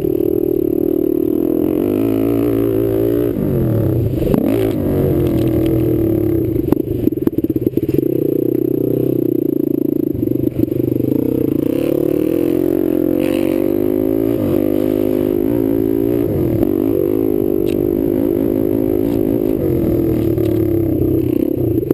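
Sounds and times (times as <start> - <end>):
quad engine revving: 0.0 - 21.9.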